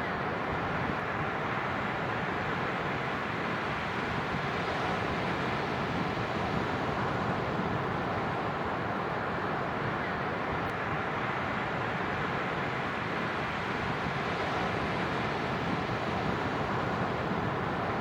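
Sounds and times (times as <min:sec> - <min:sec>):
ocean waves breaking on beach: 0:00.2 - 0:18.0.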